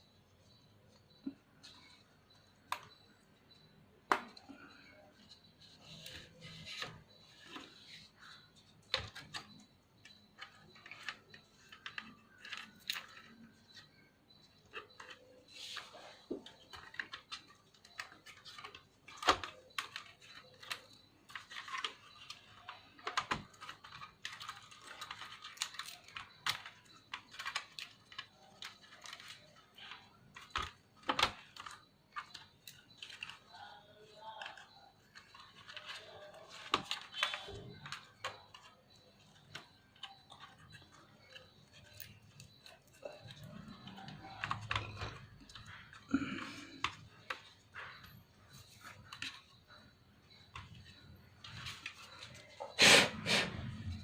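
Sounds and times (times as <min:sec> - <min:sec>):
small laptop parts clicking: 0:00.4 - 0:52.6.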